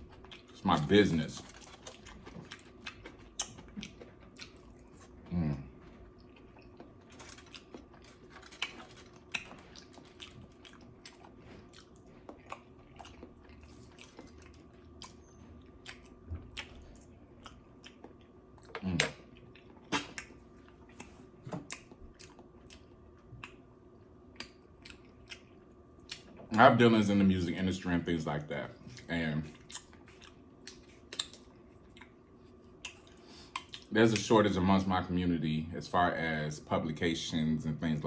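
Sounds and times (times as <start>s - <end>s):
person chewing food: 0.0s - 26.5s, 28.8s - 34.2s.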